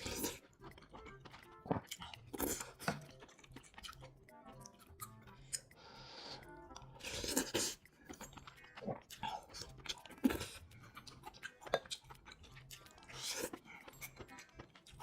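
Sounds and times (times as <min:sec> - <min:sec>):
person chewing food: 0:00.0 - 0:15.0
wet mouth clicks: 0:00.0 - 0:15.0.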